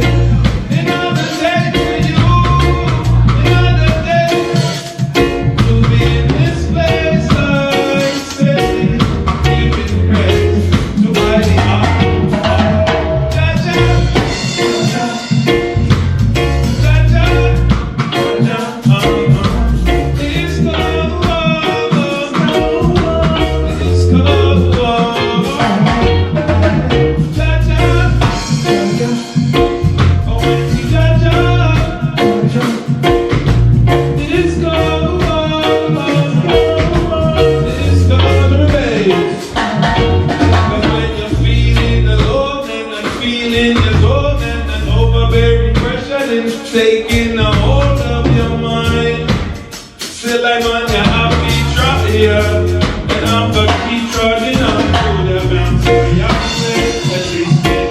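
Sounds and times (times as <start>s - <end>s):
heavy pulsing bass line: 0.0s - 4.4s, 5.1s - 18.1s, 18.9s - 42.5s, 43.6s - 46.0s, 47.2s - 49.6s, 50.9s - 57.6s
reggae band playing: 0.0s - 57.9s.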